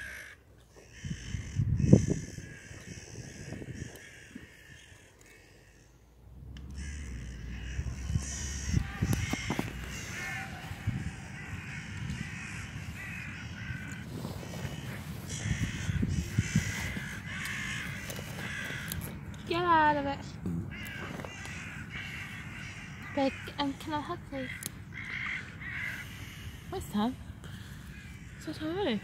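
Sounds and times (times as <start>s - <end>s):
crows cawing: 0.0s - 29.0s.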